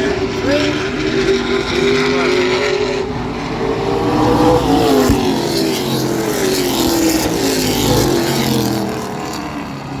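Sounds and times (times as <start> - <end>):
race truck engines passing by: 0.0 - 10.0.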